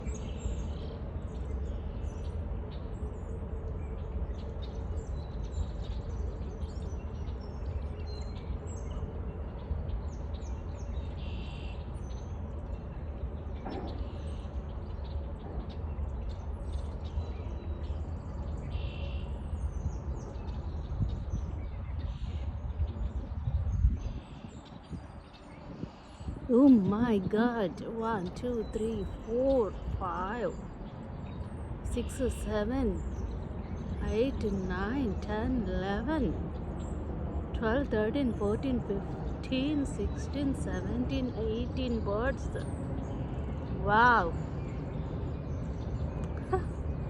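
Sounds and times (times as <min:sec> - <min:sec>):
birds chirping and calling: 0:00.0 - 0:47.0
steady low rumble: 0:00.0 - 0:47.0.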